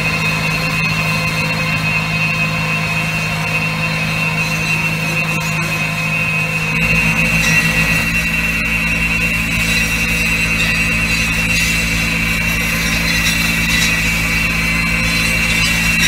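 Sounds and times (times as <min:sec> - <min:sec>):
hedge cutters whining through branches: 0:00.0 - 0:16.0
tractor engine running: 0:00.0 - 0:16.0.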